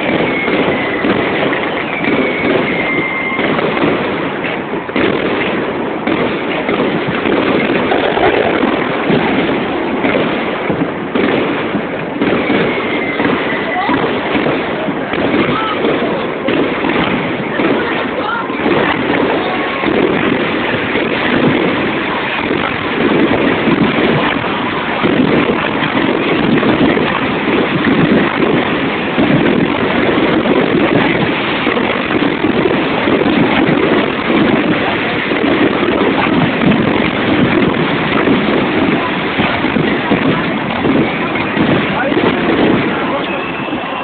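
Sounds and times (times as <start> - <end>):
firework hissing: 0.0 - 44.0.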